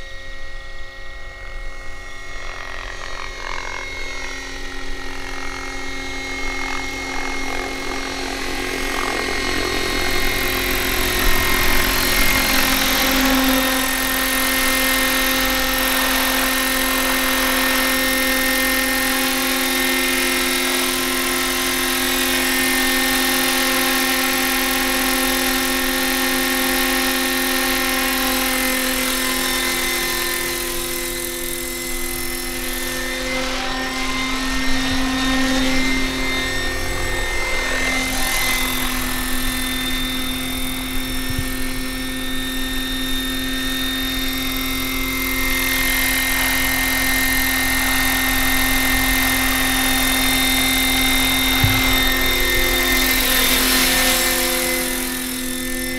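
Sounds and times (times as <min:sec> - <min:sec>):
rc helicopter motor whine: 0:00.0 - 0:55.9
rotor whir: 0:00.1 - 0:55.9.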